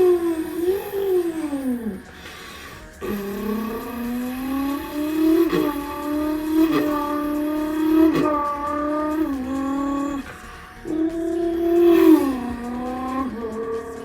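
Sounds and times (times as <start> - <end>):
boy imitating engine sound: 0.0 - 14.0.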